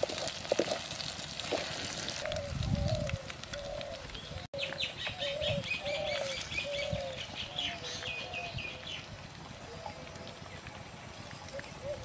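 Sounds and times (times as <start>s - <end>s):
low bird call: 2.2s - 12.0s.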